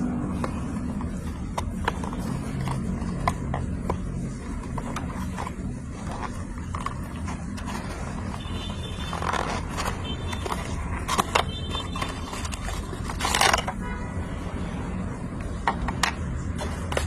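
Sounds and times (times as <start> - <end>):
plastic packaging scrapes and clicks: 0.2 - 13.8.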